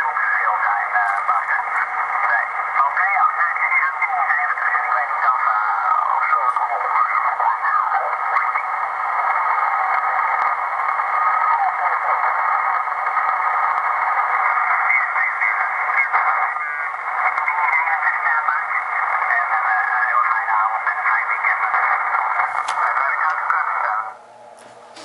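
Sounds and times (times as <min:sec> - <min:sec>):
garbled radio voices: 0:00.0 - 0:24.2
radio hiss: 0:00.0 - 0:25.0.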